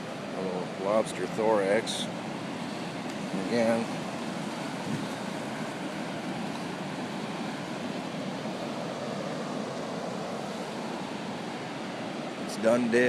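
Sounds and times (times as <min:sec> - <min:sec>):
ocean surf washing on shore: 0:00.0 - 0:13.0.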